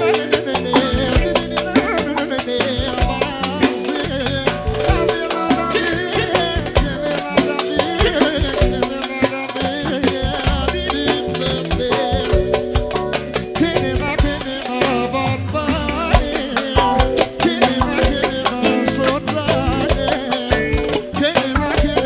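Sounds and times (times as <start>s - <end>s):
upbeat song with drum beat: 0.0s - 22.0s.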